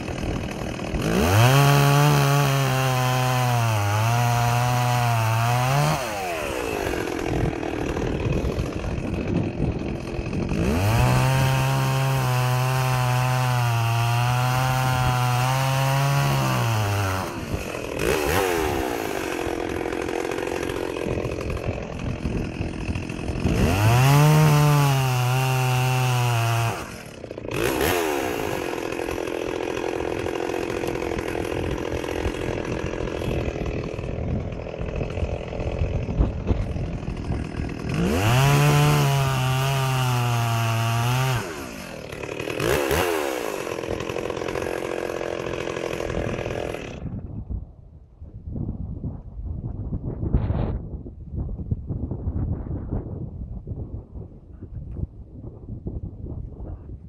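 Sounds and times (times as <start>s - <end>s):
chainsaw cutting wood: 0.0s - 47.3s.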